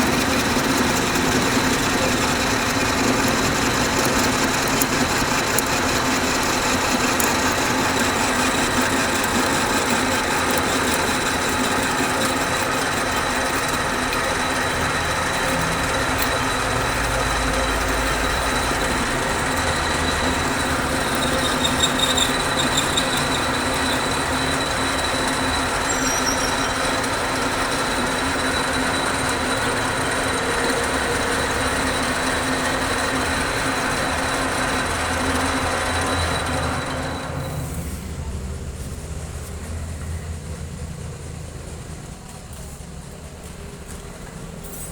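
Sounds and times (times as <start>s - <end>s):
metal lathe running: 0.0s - 44.7s.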